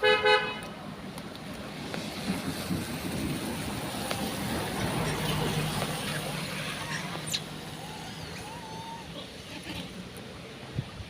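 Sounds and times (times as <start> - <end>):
passing vehicle engine hum: 0.8 - 11.0.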